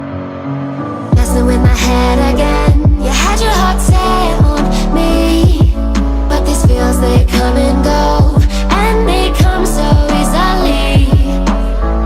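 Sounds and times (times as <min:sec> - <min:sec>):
electronic beat with deep bass: 0:01.2 - 0:02.0, 0:02.6 - 0:11.7.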